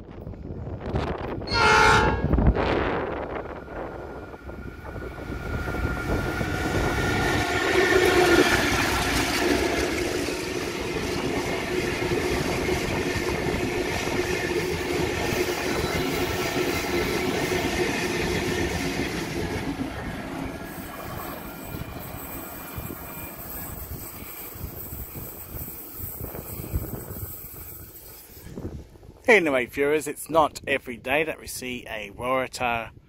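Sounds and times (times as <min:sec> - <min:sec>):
diesel locomotive passing: 0:00.1 - 0:29.2
train wheels on rails: 0:02.1 - 0:29.1.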